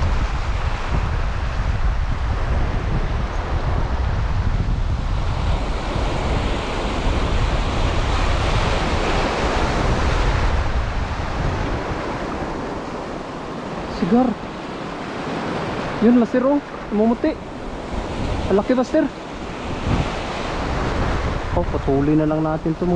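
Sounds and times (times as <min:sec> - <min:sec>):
surf washing over rocks: 0:00.0 - 0:22.9
wind buffeting microphone: 0:00.0 - 0:22.9.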